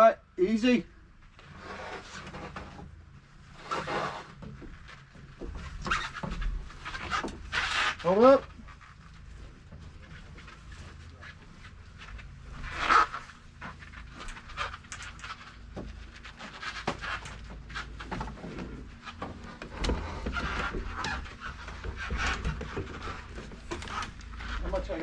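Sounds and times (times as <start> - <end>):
pipe scraping and knocking in wall: 1.4 - 25.0.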